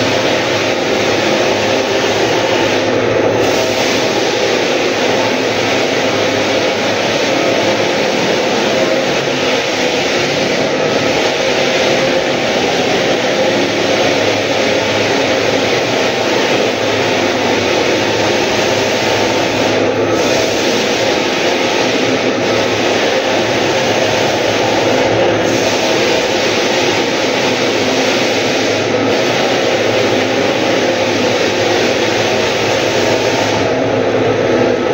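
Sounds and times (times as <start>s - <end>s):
floor sander grinding wood: 0.0s - 34.9s.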